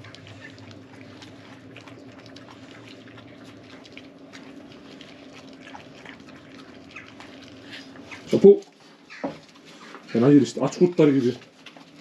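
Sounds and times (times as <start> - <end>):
puppies chewing meat: 0.0 - 12.0.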